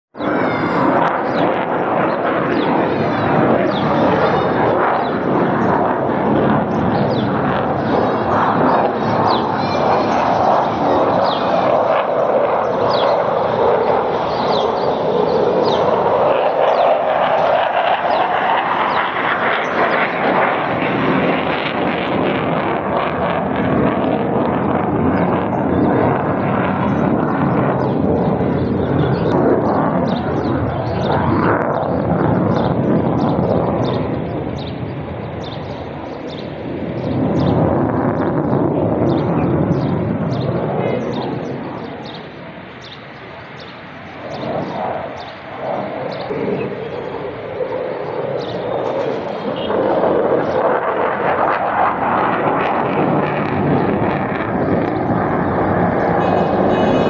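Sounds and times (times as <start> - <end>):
fighter jets roaring overhead: 0.1 - 57.0.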